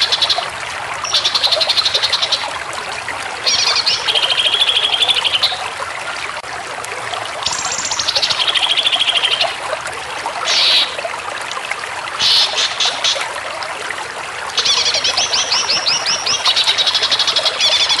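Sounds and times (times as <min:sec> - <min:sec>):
trickle of running water: 0:00.0 - 0:18.0.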